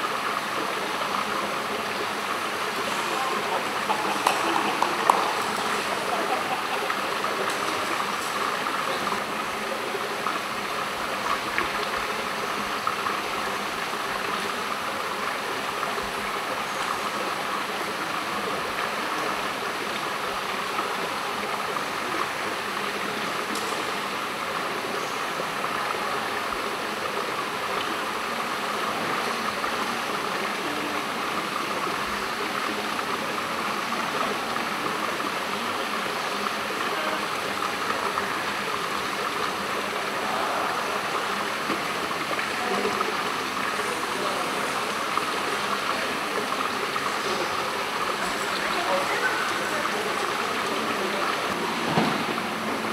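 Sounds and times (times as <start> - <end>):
water rushing in fish tank: 0.0 - 52.9.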